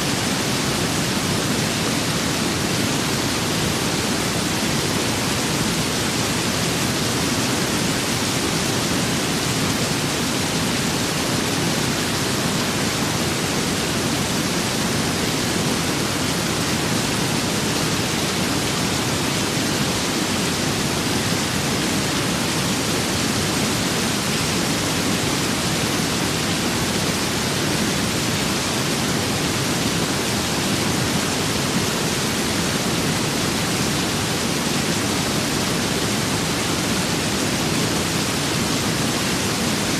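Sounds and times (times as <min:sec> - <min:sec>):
steady rain with wind: 0:00.0 - 0:39.9.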